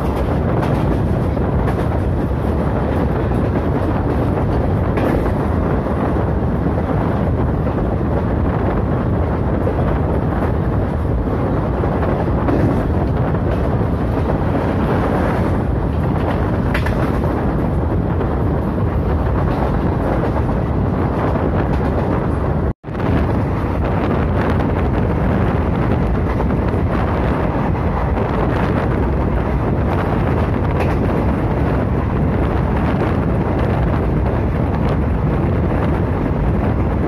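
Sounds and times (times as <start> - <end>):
rushing wind: 0.0 - 37.0
train wheels rumbling on track: 0.0 - 37.0.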